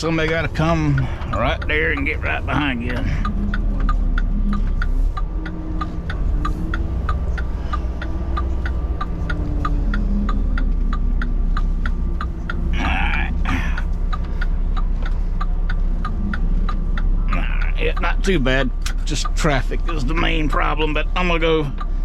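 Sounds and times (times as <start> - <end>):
rapid even ticking: 0.0 - 22.0
truck diesel engine running: 0.0 - 22.0.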